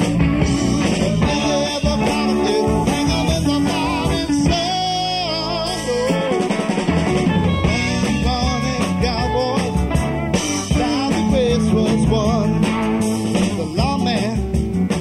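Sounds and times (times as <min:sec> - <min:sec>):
lead line with bent notes: 0:00.0 - 0:15.0
rock band playing live: 0:00.0 - 0:15.0.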